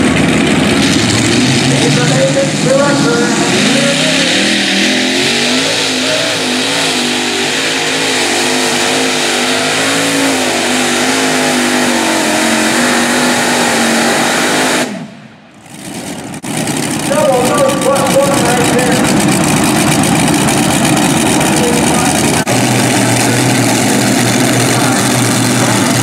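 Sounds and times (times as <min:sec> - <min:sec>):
pulling tractor engine at full throttle: 0:00.0 - 0:26.0.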